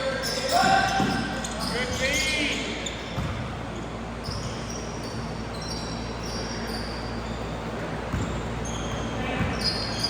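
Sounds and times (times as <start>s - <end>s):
sneaker squeaks on court: 0.1s - 10.0s.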